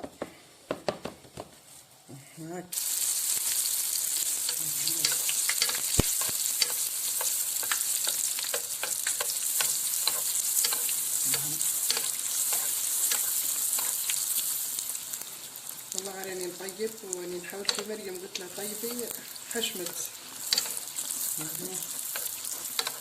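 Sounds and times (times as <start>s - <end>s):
dough sizzling in hot oil: 2.7s - 23.0s.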